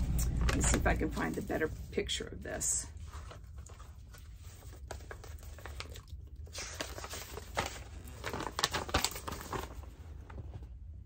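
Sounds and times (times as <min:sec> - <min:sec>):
rustling and crinkling: 0:00.3 - 0:11.0.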